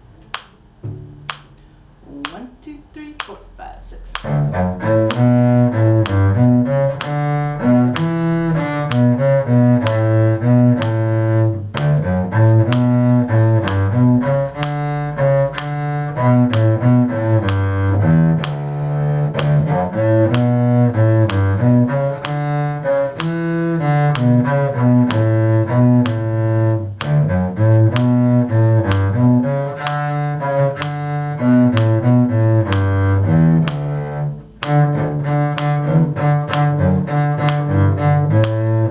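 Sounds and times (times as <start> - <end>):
bowed cello tune: 0.0 - 2.5, 4.0 - 38.9.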